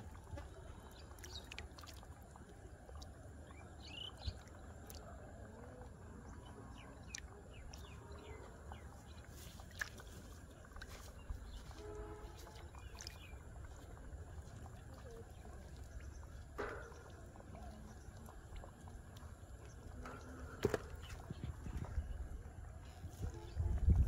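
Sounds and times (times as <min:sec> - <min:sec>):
splashing in shallow water: 0:00.0 - 0:24.0
birds chirping: 0:03.4 - 0:23.8.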